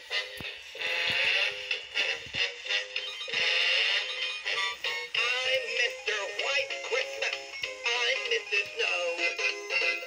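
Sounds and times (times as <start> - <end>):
toy voice singing over music: 0.1 - 10.0.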